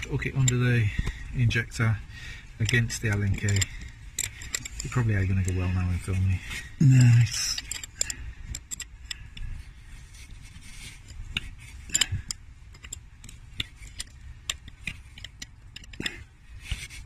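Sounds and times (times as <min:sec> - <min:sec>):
steel tools clicking and scraping: 0:00.0 - 0:17.0.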